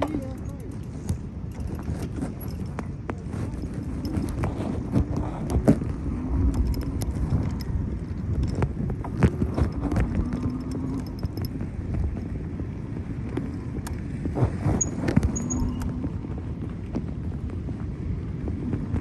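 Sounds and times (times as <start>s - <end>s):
bicycle clattering and rattling: 0.0s - 15.9s
wind on microphone: 0.0s - 19.0s.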